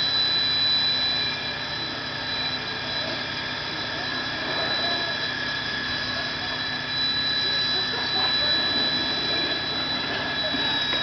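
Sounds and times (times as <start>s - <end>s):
high thin whine: 0.0s - 11.0s
mechanical drone: 0.0s - 11.0s.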